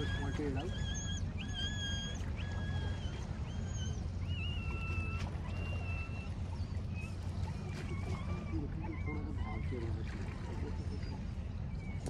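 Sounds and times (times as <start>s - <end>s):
low rumble of water and wind: 0.0s - 12.0s.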